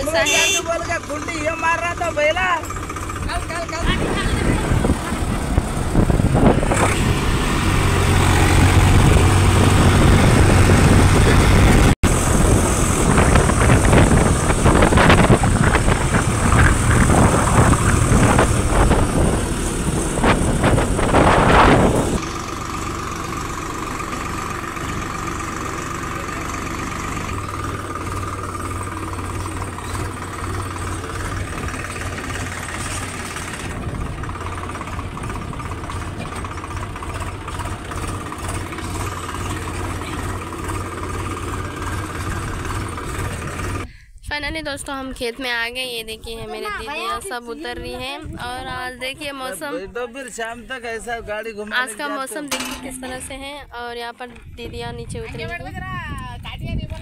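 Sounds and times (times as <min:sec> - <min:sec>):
tractor engine running: 0:00.0 - 0:49.6, 0:51.6 - 0:57.0.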